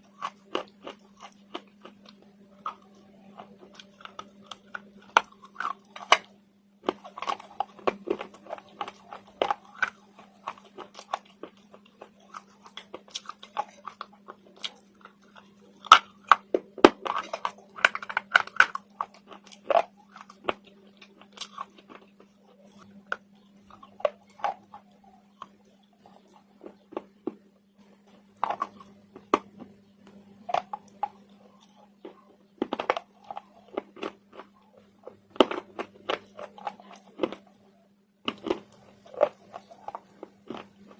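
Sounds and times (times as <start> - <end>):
faint steady hum: 0.0 - 40.9
slate being chewed: 0.0 - 40.9.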